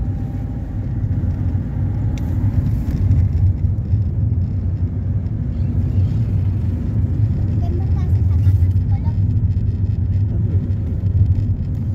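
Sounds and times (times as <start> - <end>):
engine and tyre rumble: 0.0 - 11.9.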